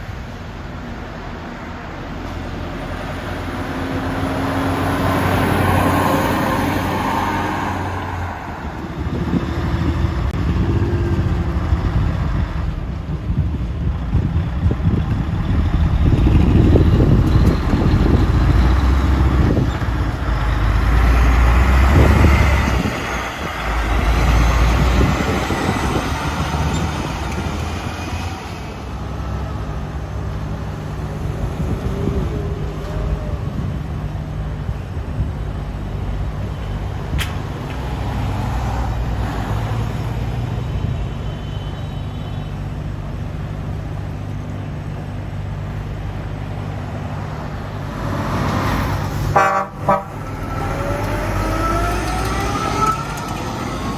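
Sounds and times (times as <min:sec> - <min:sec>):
diesel trucks passing: 0:00.0 - 0:53.9.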